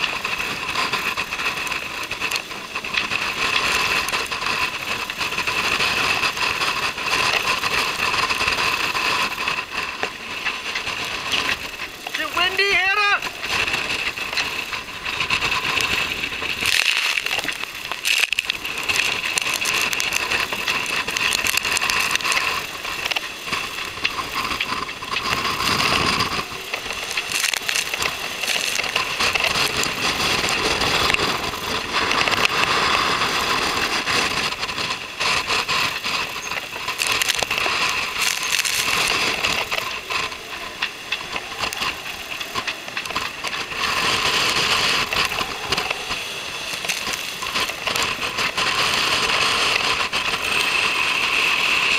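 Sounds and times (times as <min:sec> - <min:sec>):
water rushing along hull: 0:00.0 - 0:51.9
wind buffeting microphone: 0:00.0 - 0:51.9.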